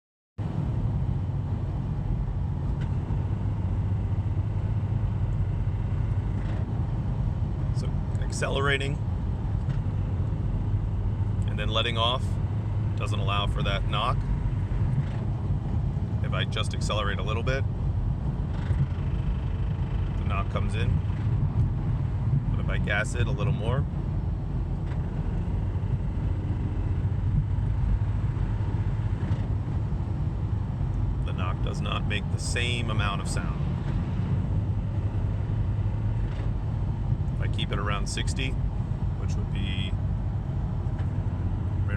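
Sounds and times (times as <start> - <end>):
car engine droning: 0.4 - 41.9
road noise: 0.4 - 41.9.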